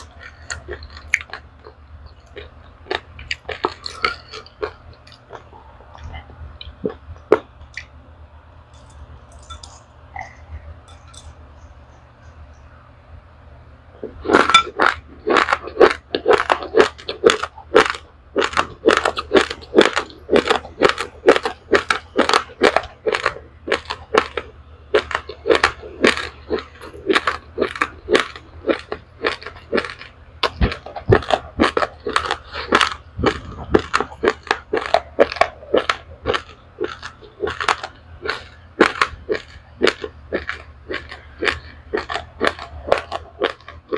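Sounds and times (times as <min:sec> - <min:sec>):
person chewing crunchy rice: 0:00.0 - 0:07.9, 0:14.1 - 0:43.9.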